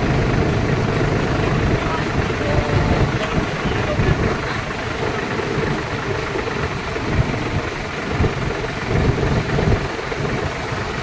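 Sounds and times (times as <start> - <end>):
tractor engines idling: 0.0 - 11.0.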